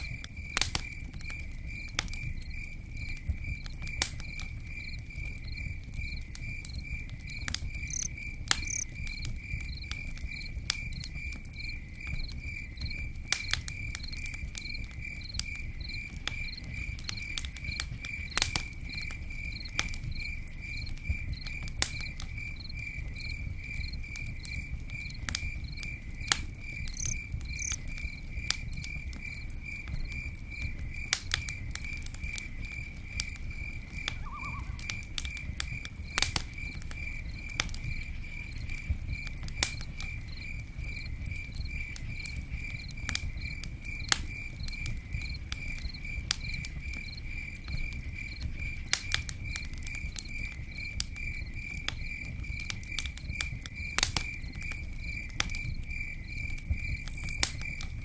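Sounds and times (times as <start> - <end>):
campfire crackling and popping: 0.0 - 58.0
insect chirping: 0.0 - 58.0.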